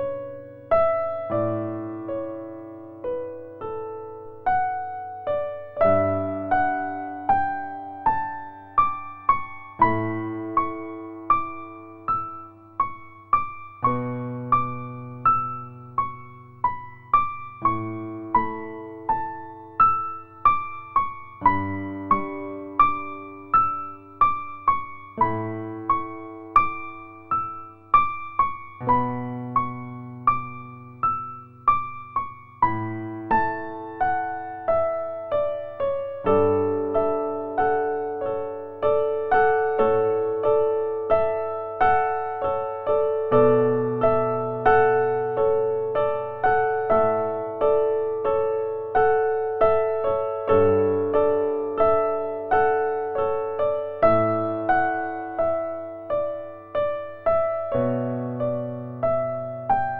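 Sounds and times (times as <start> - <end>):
slow gentle piano piece: 0.0 - 59.9.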